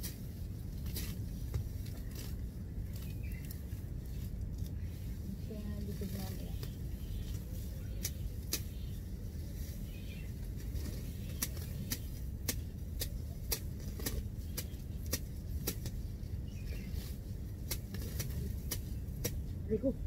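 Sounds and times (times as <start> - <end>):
stems snapping: 0.0 - 4.8, 5.8 - 9.1, 10.3 - 19.8
grass being pulled and cut: 0.0 - 20.0
steady low rumble: 0.0 - 20.0.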